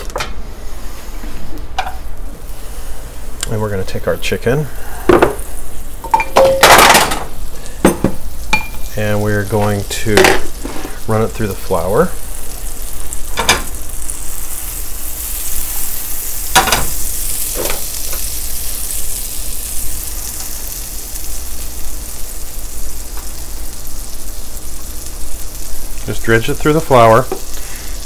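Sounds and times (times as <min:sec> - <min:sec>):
butter sizzling in skillet: 0:00.6 - 0:28.0.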